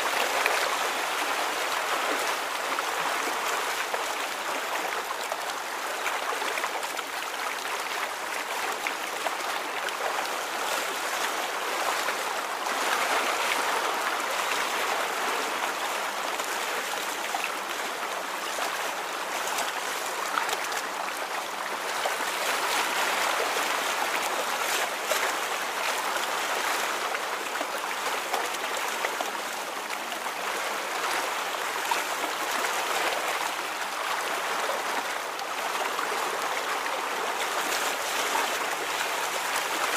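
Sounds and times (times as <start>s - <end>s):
water rippling and flowing: 0.0s - 39.9s.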